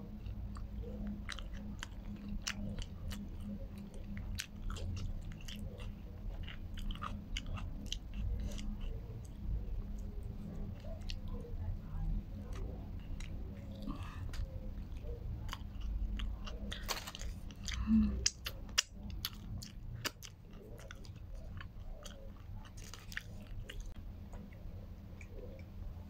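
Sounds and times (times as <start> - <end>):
chewing and biting food: 0.0 - 25.8.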